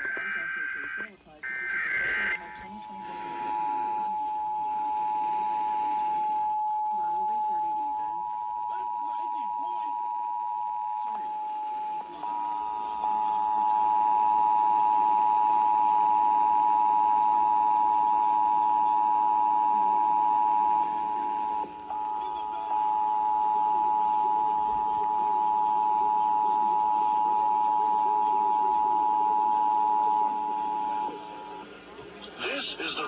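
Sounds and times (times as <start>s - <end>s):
two-tone alert signal from radio: 0.0s - 31.2s.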